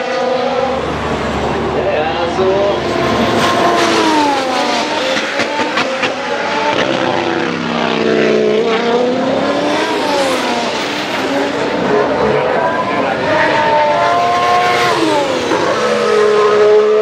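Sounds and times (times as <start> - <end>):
race car engines at speed: 0.0 - 17.0.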